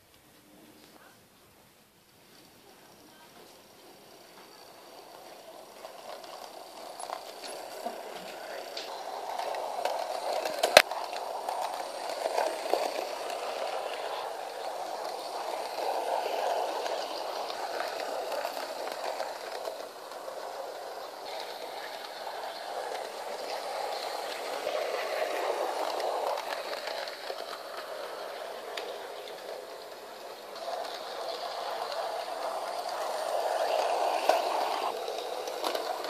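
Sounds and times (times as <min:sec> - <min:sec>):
model train motor whirring: 0:02.4 - 0:36.0
wheels rumbling on rails: 0:04.3 - 0:36.0.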